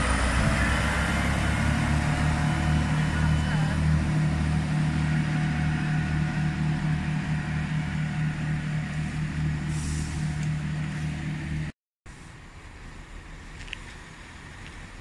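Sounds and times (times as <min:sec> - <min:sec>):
train diesel engines droning: 0:00.0 - 0:15.0.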